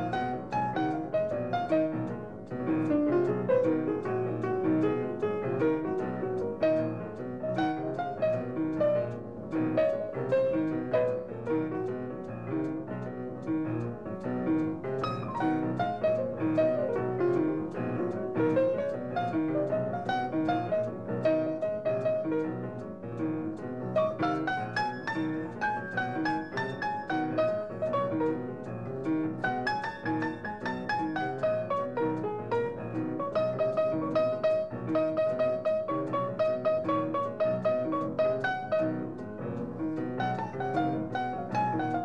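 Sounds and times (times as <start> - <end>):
jazz piano: 0.0 - 42.0.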